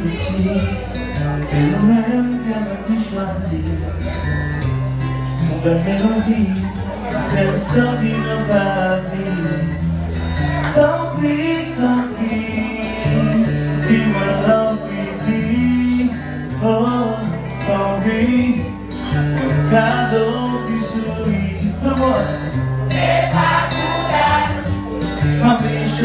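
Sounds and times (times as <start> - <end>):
acoustic guitar: 0.0 - 26.0
man singing into microphone: 0.0 - 26.0.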